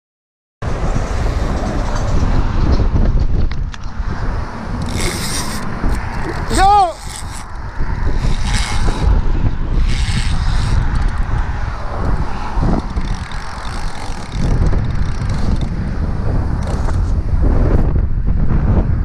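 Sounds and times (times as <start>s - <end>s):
car traffic rumble: 0.6s - 19.0s
wind buffeting microphone: 0.6s - 19.0s.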